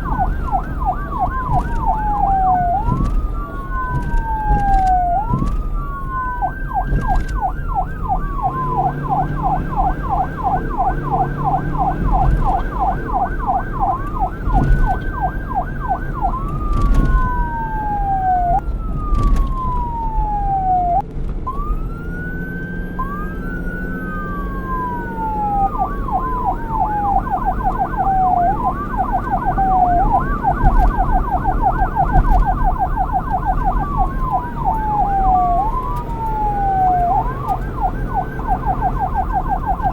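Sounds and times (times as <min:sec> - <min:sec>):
police siren wail and yelp: 0:00.0 - 0:39.9.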